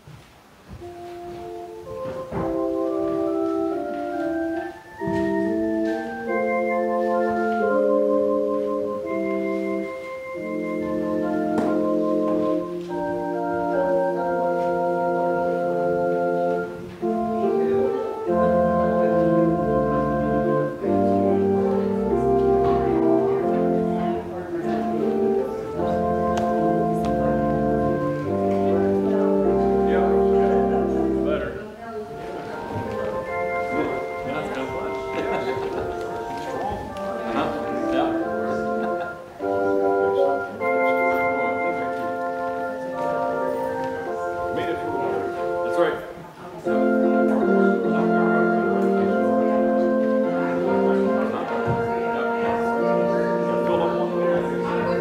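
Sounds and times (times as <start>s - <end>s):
organ playing held chords: 0.7s - 55.0s
low organ bass notes: 0.9s - 31.6s, 32.3s - 46.0s, 46.6s - 55.0s.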